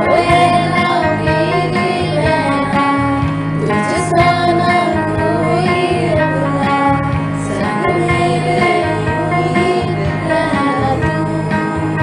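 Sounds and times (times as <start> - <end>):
instrumental backing music: 0.0 - 12.0
person singing: 0.0 - 12.0.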